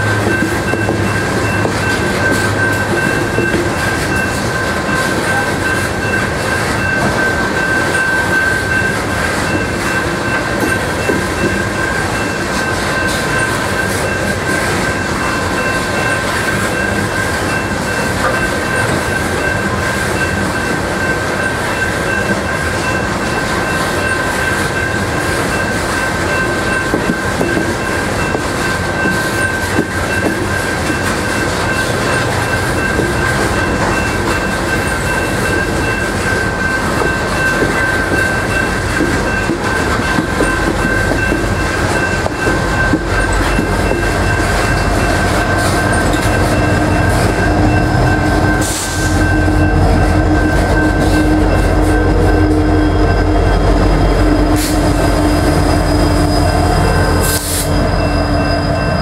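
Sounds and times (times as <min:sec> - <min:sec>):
steady high ringing tone: 0:00.0 - 0:59.0
train wheels rumbling on rails: 0:00.0 - 0:59.0.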